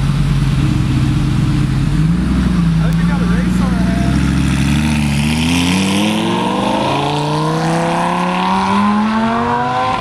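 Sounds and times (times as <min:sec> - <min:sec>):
sports car accelerating loudly: 0:01.2 - 0:10.0.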